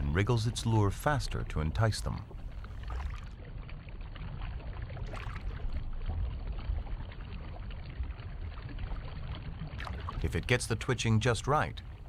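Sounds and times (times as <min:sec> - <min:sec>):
underwater stream rushing: 0:00.0 - 0:12.0.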